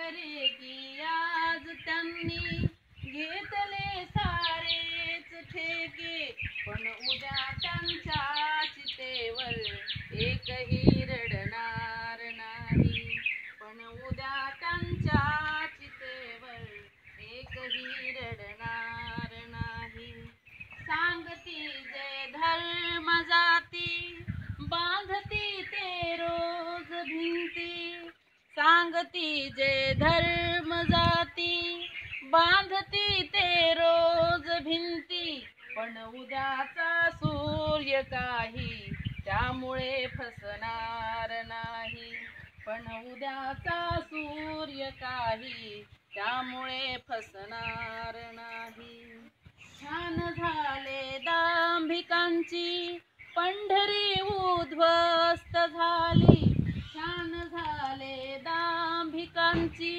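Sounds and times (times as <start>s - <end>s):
woman singing unaccompanied: 0.0s - 59.9s.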